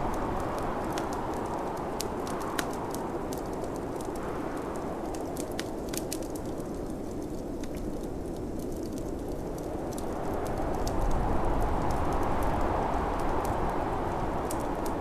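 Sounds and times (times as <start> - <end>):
snowstorm wind rushing: 0.0 - 6.8, 8.2 - 15.0
wood fire crackling: 0.0 - 15.0.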